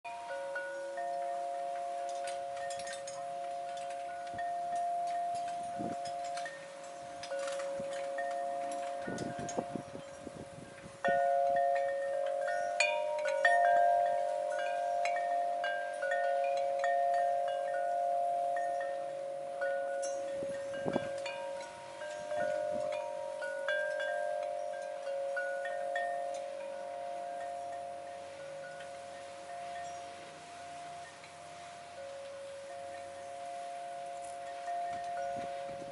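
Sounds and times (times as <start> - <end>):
wind chime ringing: 0.0 - 35.9.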